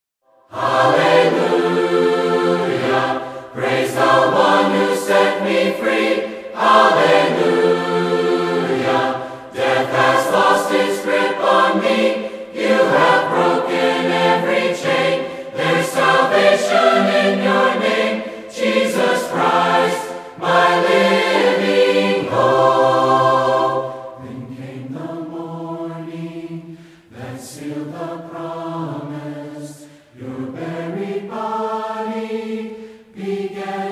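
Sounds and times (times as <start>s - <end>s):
mixed choir singing: 0.4s - 33.9s.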